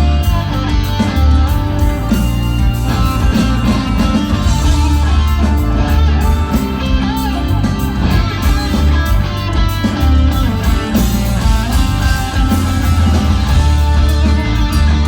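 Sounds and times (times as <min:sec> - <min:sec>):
electric guitar: 0:00.0 - 0:15.0
rock band playing: 0:00.0 - 0:15.0.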